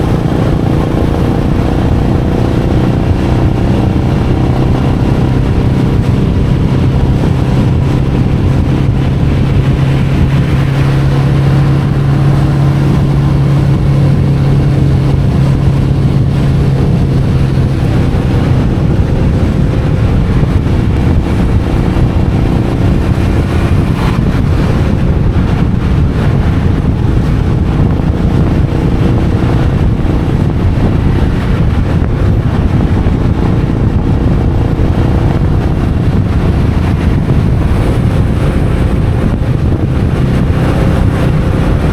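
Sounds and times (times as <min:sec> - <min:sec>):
motorcycle engine running: 0:00.0 - 0:41.9
road noise: 0:00.0 - 0:41.9
wind rushing over microphone: 0:00.0 - 0:41.9.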